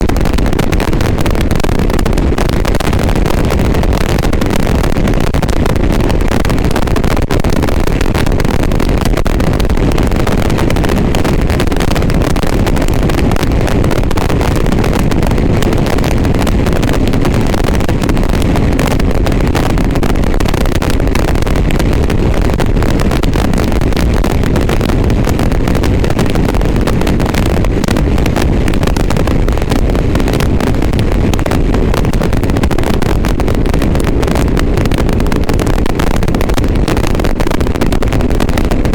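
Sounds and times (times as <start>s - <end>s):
loud wind noise on microphone: 0.0s - 38.9s.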